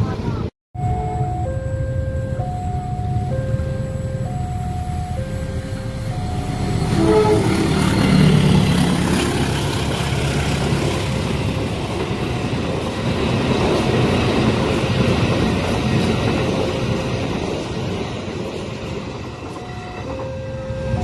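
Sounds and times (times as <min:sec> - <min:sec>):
train wheels rumbling on rails: 0:02.2 - 0:21.0.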